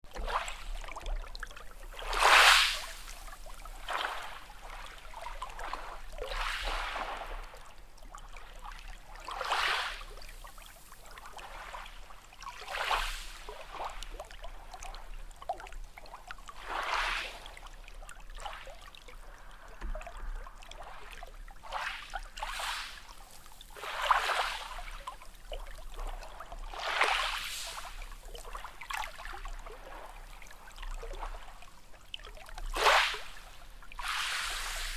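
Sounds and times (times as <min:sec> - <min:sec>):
small sea waves washing in: 0:00.1 - 0:34.9.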